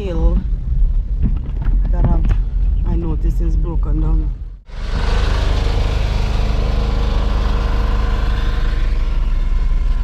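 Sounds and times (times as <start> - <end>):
car engine running: 0.6 - 10.0.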